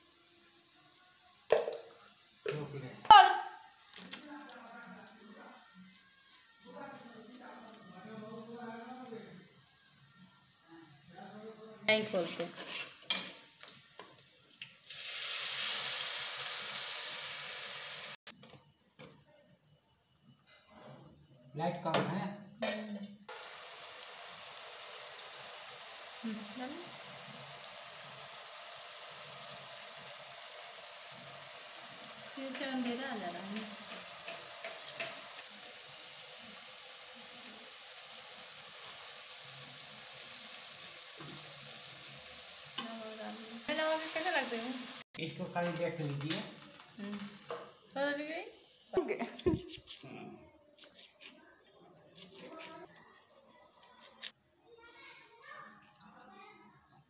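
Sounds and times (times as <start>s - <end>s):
liquid sizzling in hot oil: 0.0s - 18.4s, 22.6s - 49.9s.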